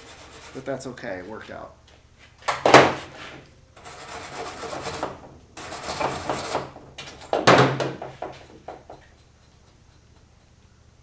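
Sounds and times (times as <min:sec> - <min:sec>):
scraping on metal bodywork: 0:00.0 - 0:01.3, 0:02.2 - 0:10.4.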